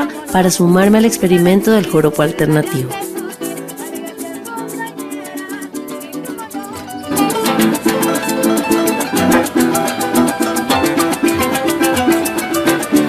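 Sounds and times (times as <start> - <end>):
maracas shaking fast: 0.0 - 13.0
plucked strings: 0.0 - 13.0.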